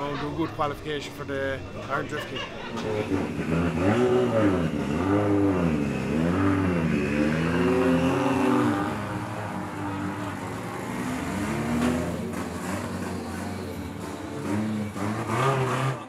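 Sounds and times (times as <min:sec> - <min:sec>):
car engine revving: 0:02.8 - 0:16.0.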